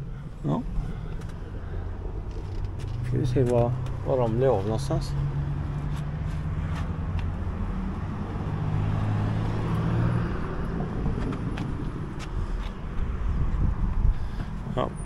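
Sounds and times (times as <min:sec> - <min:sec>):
car engine passing by: 0:01.6 - 0:13.7.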